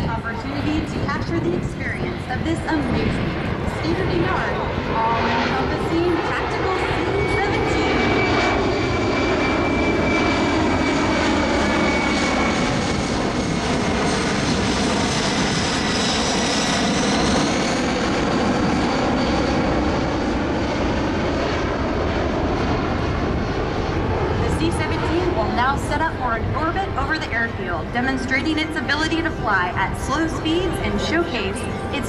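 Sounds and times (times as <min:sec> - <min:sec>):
jet engines rumbling and whining: 0:00.0 - 0:32.0.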